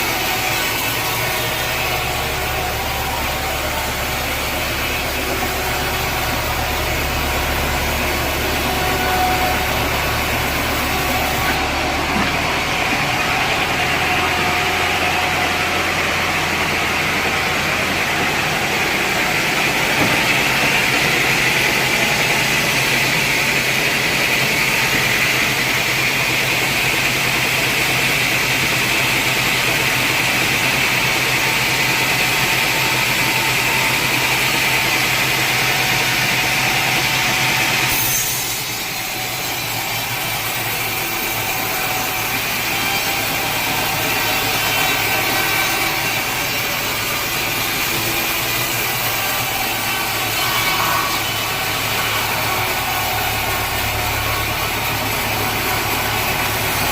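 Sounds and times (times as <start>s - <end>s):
saw cutting through log: 0.0s - 56.9s
saw motor humming: 0.0s - 56.9s.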